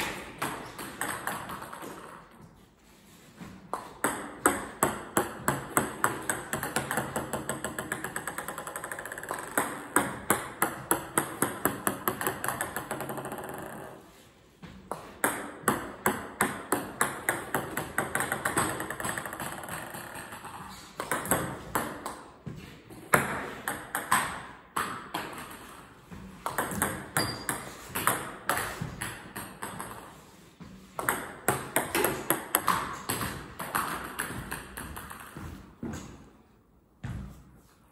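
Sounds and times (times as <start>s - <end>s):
table tennis balls bouncing: 0.0s - 37.6s.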